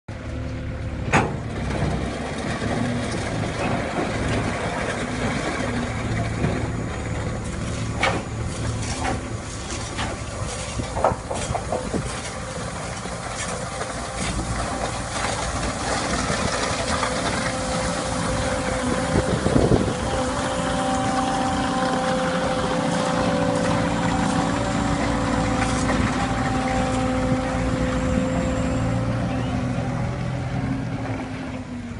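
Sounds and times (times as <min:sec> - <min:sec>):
diesel engine running: 0:00.1 - 0:31.9.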